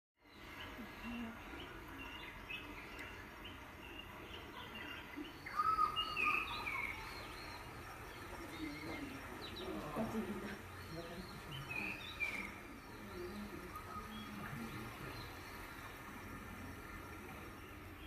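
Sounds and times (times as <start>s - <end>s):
outdoor background noise: 0.2s - 18.0s
birds chirping and calling: 0.3s - 18.0s.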